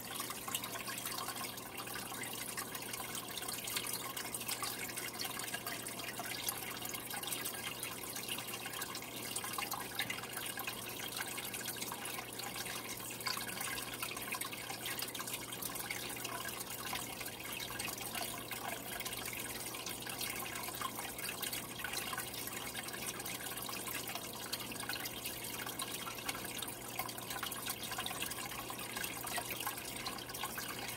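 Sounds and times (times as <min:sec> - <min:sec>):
aquarium water trickling: 0:00.0 - 0:30.9.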